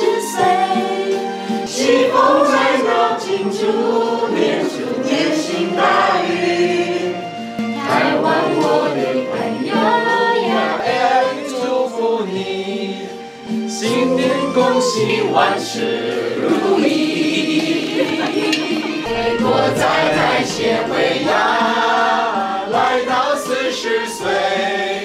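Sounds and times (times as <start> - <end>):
backing music: 0.0 - 25.0
group singing in chorus: 0.0 - 25.0.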